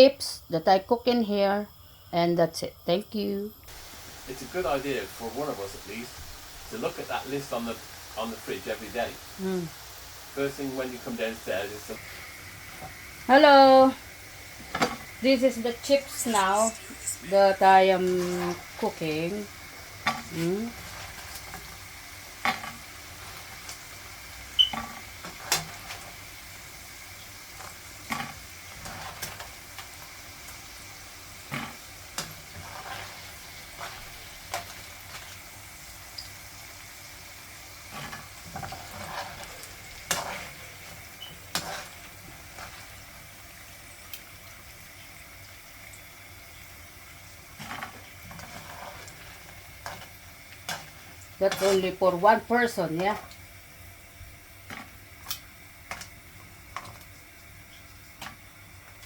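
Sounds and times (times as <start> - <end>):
oil popping and crackling: 3.7 - 53.6, 54.2 - 59.0
chips deep-frying in oil: 3.7 - 59.0.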